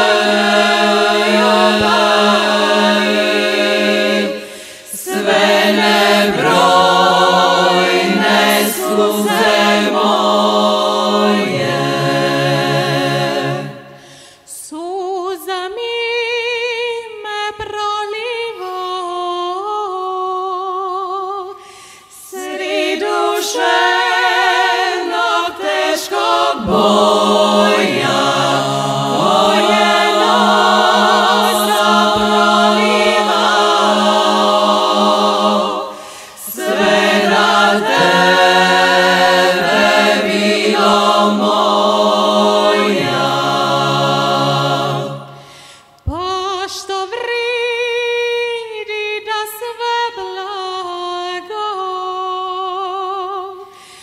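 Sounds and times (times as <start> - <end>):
women singing a cappella harmony: 0.0 - 54.0.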